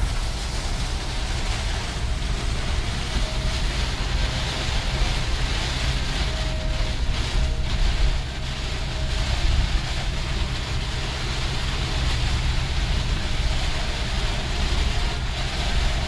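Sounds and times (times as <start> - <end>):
rain hiss on wet road: 0.0 - 16.0
van engine and road rumble: 0.0 - 16.0.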